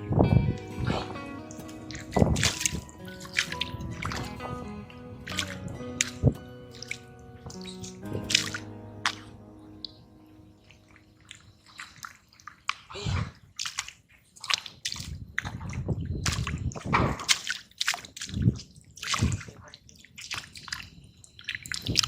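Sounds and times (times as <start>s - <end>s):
mud squelching and water splashing: 0.0s - 22.0s.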